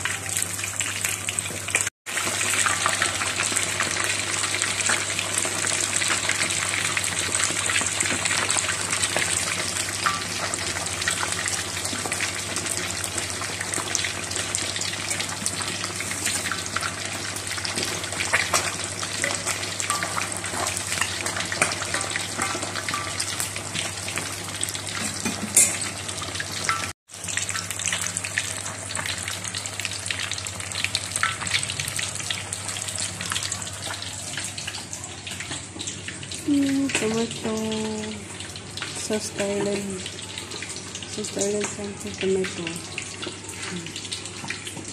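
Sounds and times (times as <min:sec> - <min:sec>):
fish frying in hot oil: 0:00.0 - 0:44.9.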